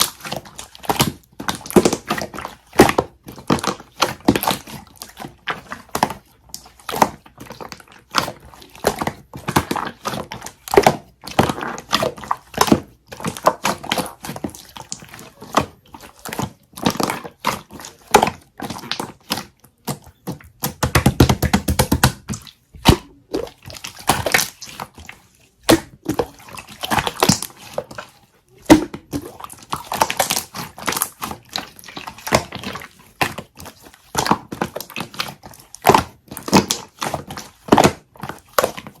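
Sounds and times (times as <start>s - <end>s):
slime clicking and crackling: 0.0s - 39.0s.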